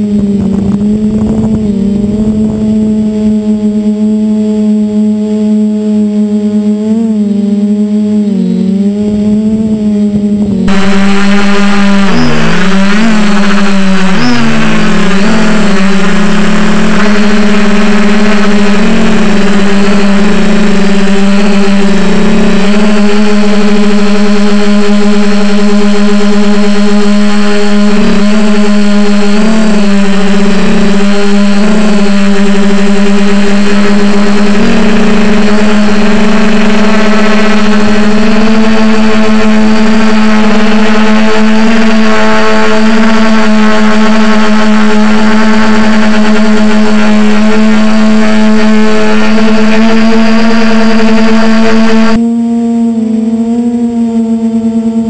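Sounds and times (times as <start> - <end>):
quadcopter propellers buzzing: 0.0 - 55.0.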